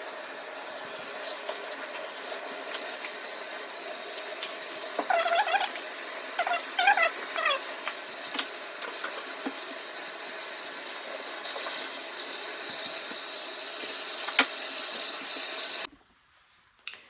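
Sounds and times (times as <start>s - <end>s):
bathtub faucet running: 0.0s - 15.9s.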